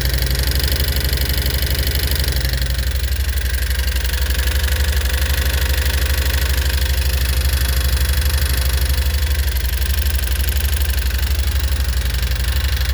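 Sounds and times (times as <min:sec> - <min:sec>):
engine idling with ticking: 0:00.0 - 0:12.9.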